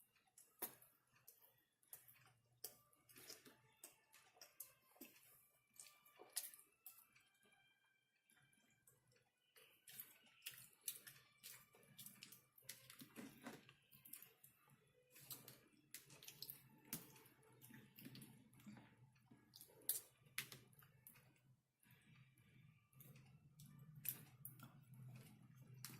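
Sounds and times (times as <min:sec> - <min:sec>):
soft wet chewing: 0:00.0 - 0:25.9.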